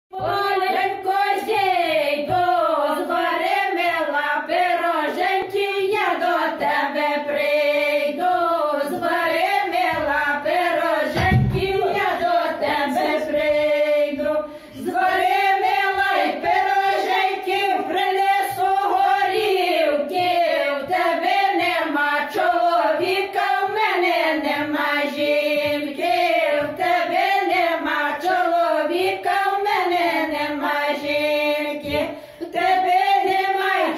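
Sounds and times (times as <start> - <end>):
women singing unaccompanied folk song: 0.1 - 33.9.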